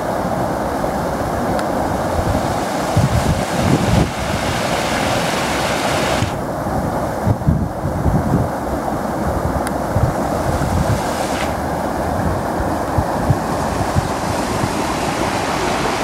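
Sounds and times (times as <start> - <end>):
wind buffeting microphone: 0.0 - 16.0
floodwater rushing over stones: 0.2 - 7.2, 9.0 - 16.0.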